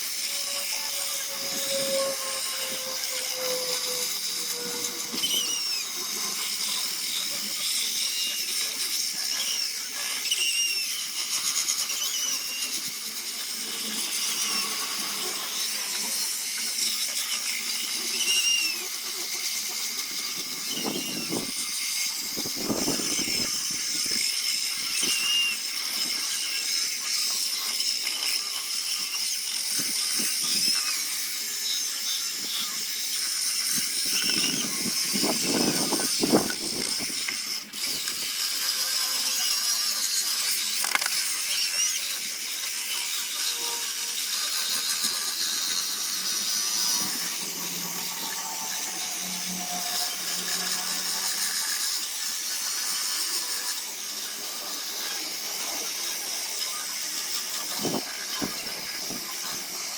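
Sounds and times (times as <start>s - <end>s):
power tool high-pitched whine: 0.0s - 59.9s.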